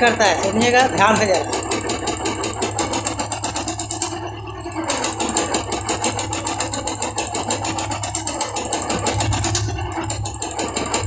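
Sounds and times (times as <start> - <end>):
motorcycle engine ticking knock: 0.0 - 11.0.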